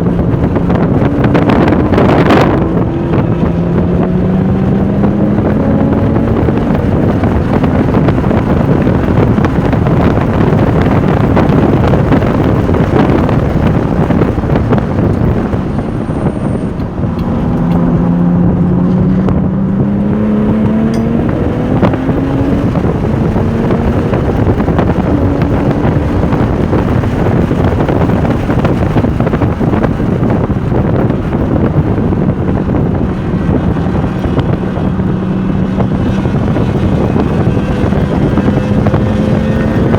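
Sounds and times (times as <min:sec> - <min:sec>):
car engine running hard: 0:00.0 - 0:39.9
wind noise on microphone: 0:00.0 - 0:39.9.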